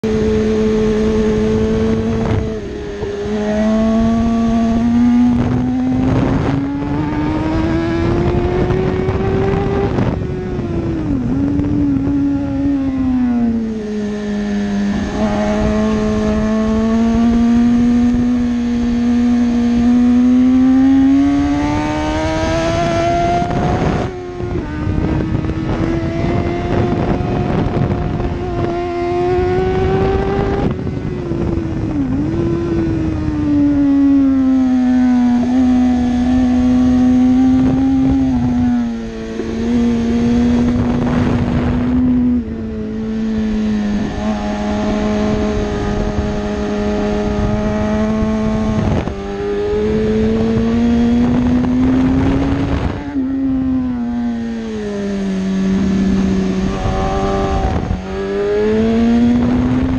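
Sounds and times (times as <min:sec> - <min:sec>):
motorcycle engine revving: 0:00.0 - 0:59.9
wind rushing: 0:00.0 - 0:59.9.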